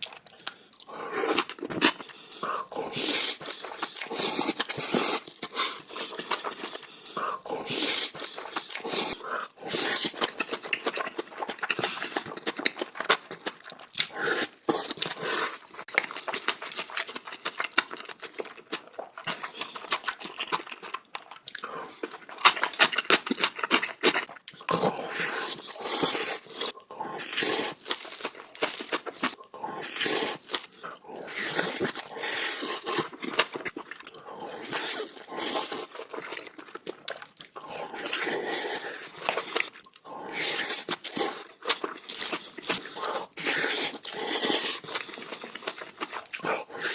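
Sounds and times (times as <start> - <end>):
wet chewing and mouth smacking: 0.0 - 46.9.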